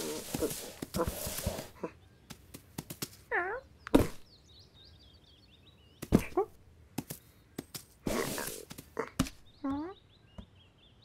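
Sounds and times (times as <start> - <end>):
faint bird twittering: 0.0 - 11.0.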